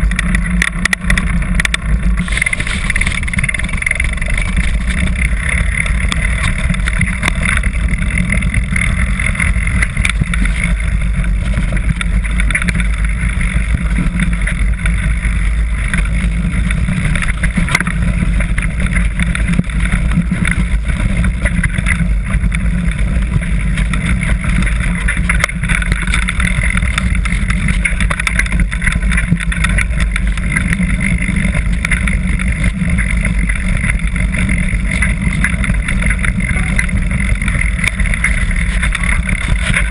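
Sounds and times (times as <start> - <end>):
bike clicks and rattles: 0.0 - 39.9
wind buffeting microphone: 0.0 - 39.9.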